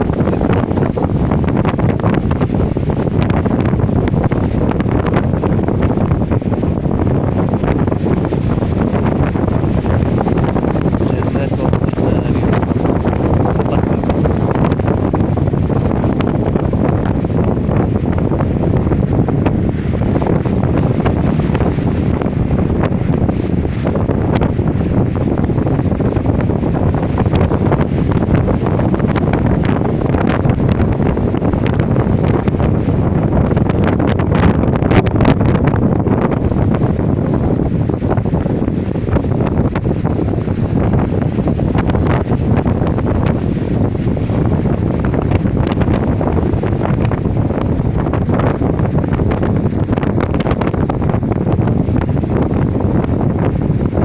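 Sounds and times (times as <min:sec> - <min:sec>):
sea waves: 0:00.0 - 0:49.9
wind buffeting microphone: 0:00.0 - 0:54.0.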